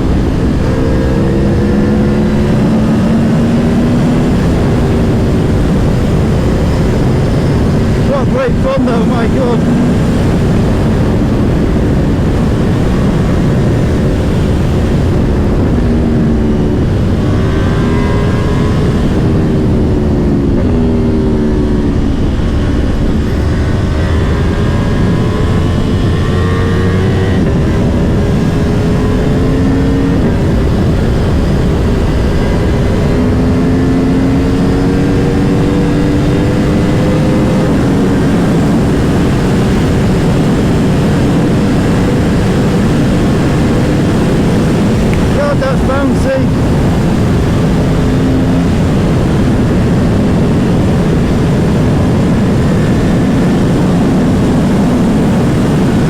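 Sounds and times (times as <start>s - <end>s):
motorcycle engine revving: 0.0s - 56.0s
wind noise on microphone: 0.0s - 56.0s.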